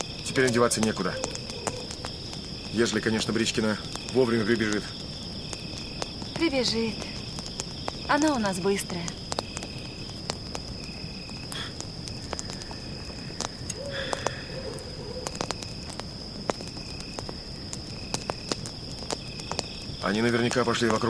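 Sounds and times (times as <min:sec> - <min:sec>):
campfire crackling: 0:00.0 - 0:21.0
high insect trill: 0:00.0 - 0:21.0.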